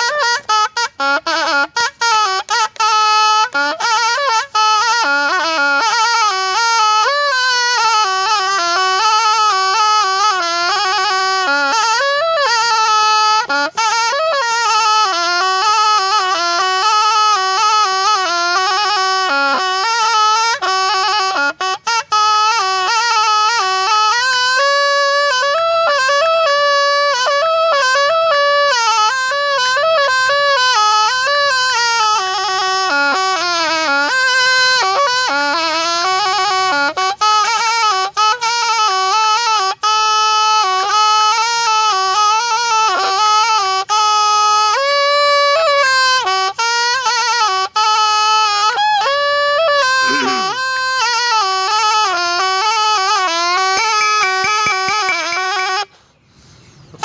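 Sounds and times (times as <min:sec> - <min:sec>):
reed oboe solo melody: 0:00.0 - 0:56.1.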